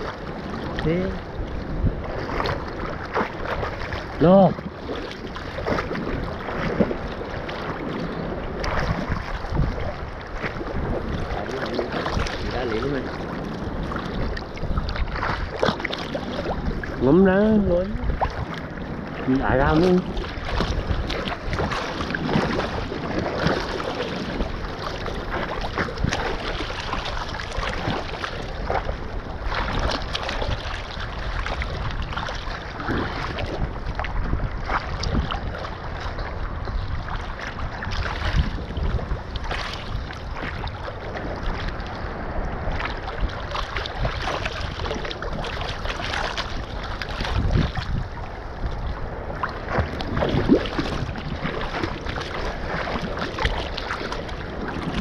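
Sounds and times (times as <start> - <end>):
water sloshing and splashing: 0.0 - 55.0
wind on microphone: 0.0 - 55.0.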